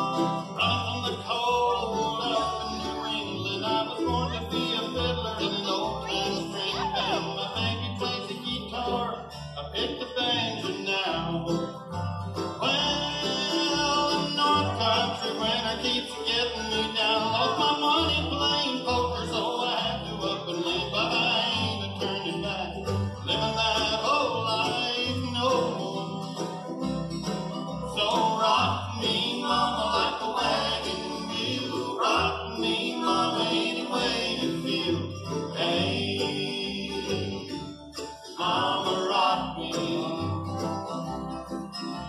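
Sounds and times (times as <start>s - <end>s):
person singing: 0.0s - 11.8s, 12.5s - 26.8s, 27.5s - 41.5s
acoustic guitars: 0.0s - 42.0s
banjo: 0.0s - 42.0s
mandolin: 0.0s - 42.0s
upright bass walking: 0.0s - 42.0s.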